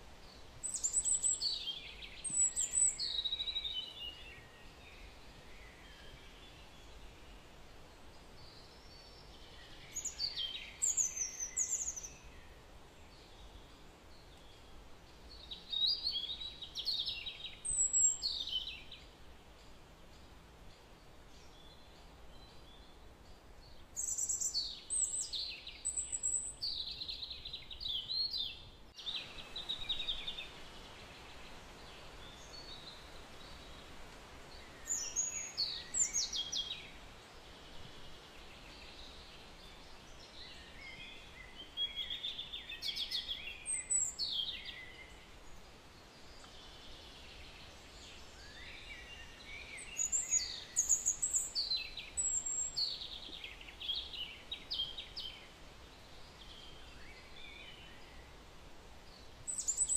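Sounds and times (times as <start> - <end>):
birds singing high chirps: 0.0 - 59.9
steady hiss: 0.0 - 59.9.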